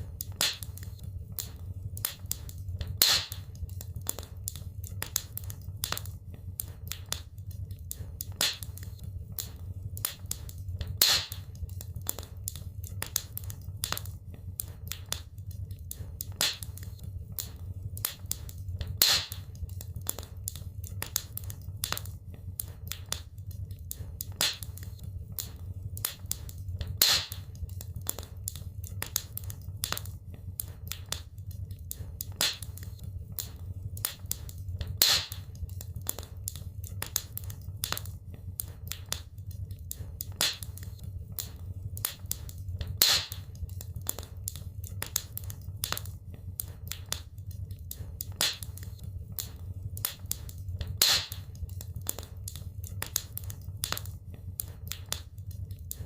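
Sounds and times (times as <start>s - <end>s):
wood fire crackling: 0.0s - 56.0s
loud fire pops: 0.2s - 7.3s, 7.9s - 15.3s, 15.9s - 23.3s, 23.9s - 31.3s, 31.9s - 39.3s, 39.9s - 55.3s.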